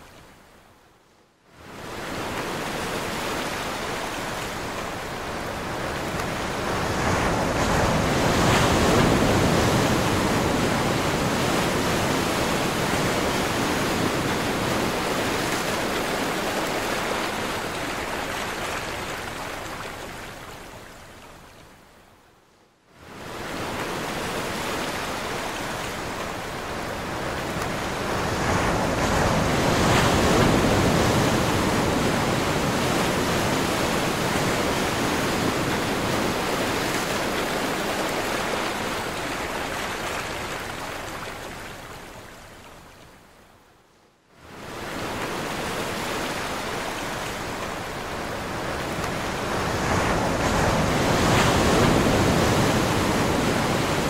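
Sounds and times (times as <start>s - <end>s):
sea waves washing onto beach: 1.6s - 21.5s, 23.0s - 43.0s, 44.4s - 54.0s.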